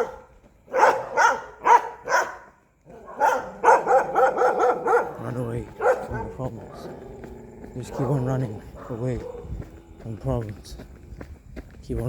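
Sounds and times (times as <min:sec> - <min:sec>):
dog barking: 0:00.0 - 0:09.7.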